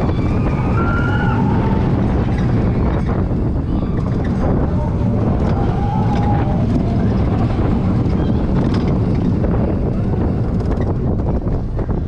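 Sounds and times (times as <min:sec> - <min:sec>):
roller coaster wheels rumbling: 0:00.0 - 0:12.0
wind noise on microphone: 0:00.0 - 0:12.0.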